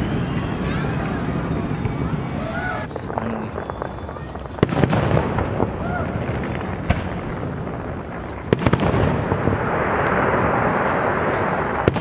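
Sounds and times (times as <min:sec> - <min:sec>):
firework bang: 0:00.0 - 0:12.0
fireworks crackling: 0:00.0 - 0:12.0.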